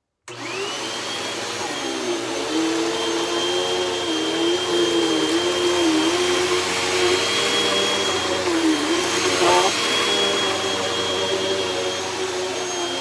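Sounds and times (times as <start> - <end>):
vacuum cleaner running: 0.3 - 13.0.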